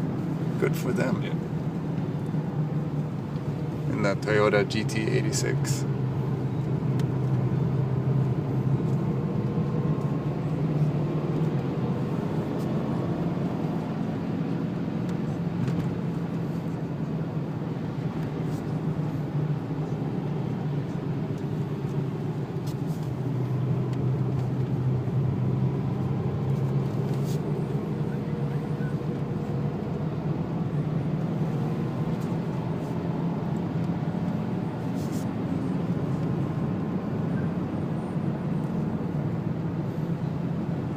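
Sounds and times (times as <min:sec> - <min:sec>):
diesel engine drone in car cabin: 0:00.0 - 0:40.9
tyre and road noise: 0:00.0 - 0:40.9.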